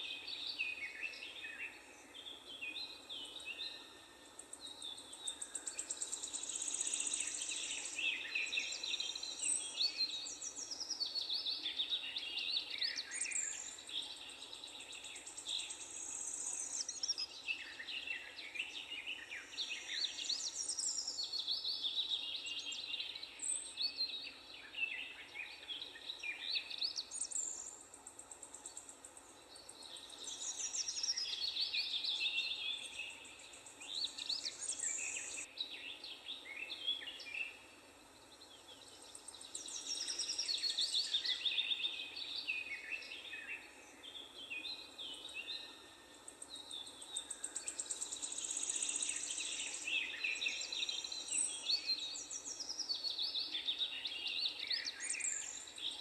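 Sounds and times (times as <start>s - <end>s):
faint outdoor hum: 0.0s - 56.0s
songbirds singing and chirping: 0.0s - 56.0s.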